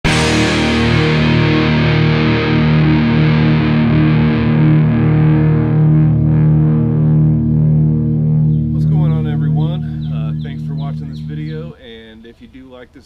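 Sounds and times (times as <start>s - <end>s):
distorted electric guitar chords: 0.0s - 11.8s.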